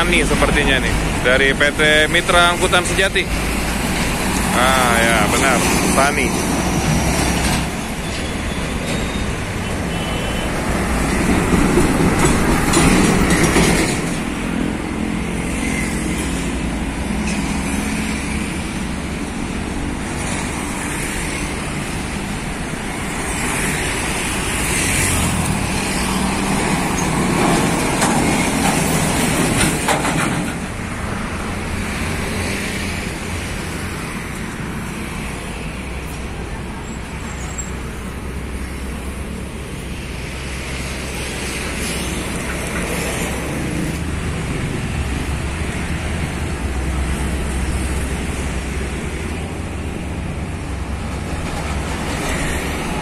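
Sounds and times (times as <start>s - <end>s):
trucks passing: 0.0s - 53.0s.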